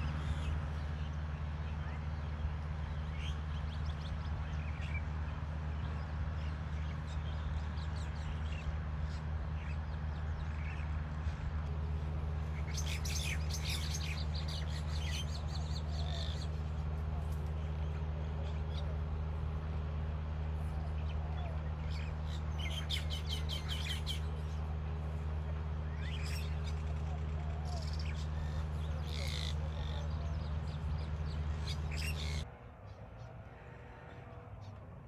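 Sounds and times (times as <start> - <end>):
birds chirping: 0.0 - 34.8.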